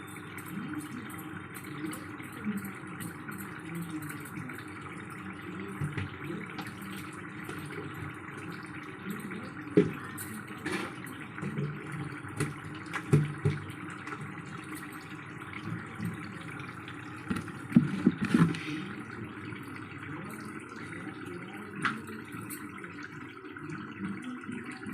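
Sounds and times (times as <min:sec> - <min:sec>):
chicken sizzling and bubbling: 0:00.0 - 0:24.9.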